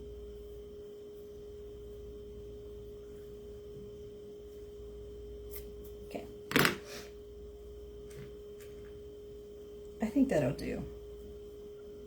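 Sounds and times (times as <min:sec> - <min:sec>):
electrical whine: 0:00.0 - 0:12.0.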